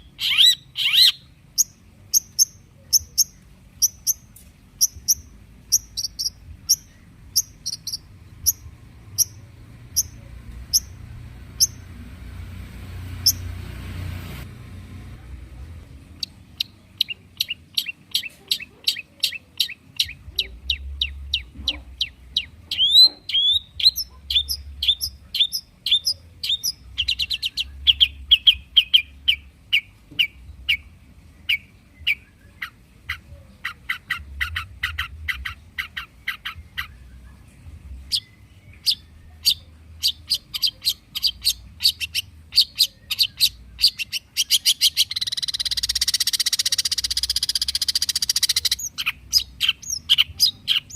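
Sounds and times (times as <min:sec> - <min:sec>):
bird chattering: 0:00.0 - 0:11.9, 0:16.2 - 0:30.9, 0:31.5 - 0:37.0, 0:38.1 - 0:50.9.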